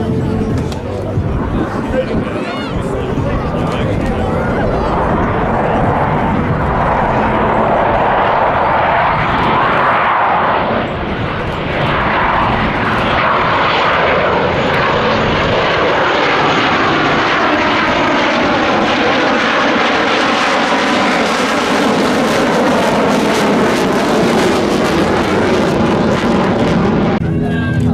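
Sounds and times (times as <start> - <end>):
fighter jets flying past: 0.0 - 27.9.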